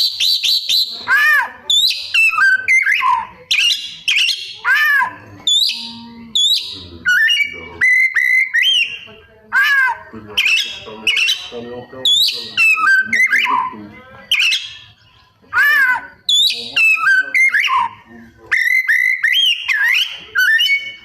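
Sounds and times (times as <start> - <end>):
songbird whistling song: 0.0 - 21.0.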